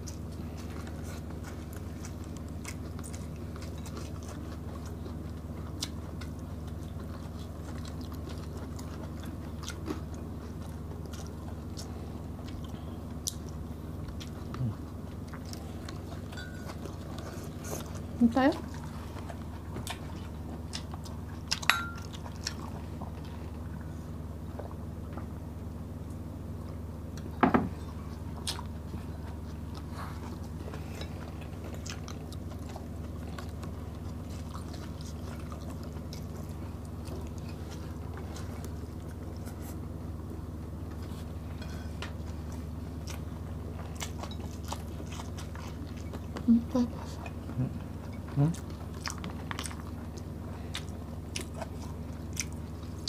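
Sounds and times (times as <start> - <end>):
chewing and mouth sounds: 0.0 - 25.3, 26.1 - 39.9, 40.7 - 53.0
steady low hum: 0.0 - 53.0.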